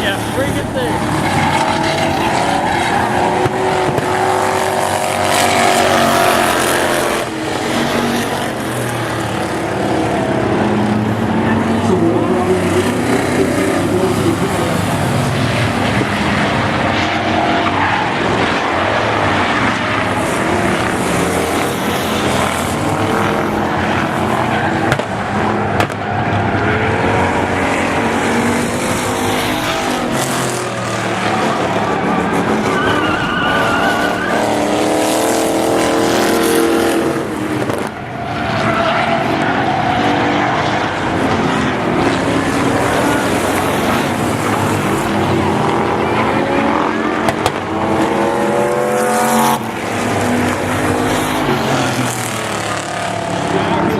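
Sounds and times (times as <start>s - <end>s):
race car engines running hard: 0.0s - 53.9s.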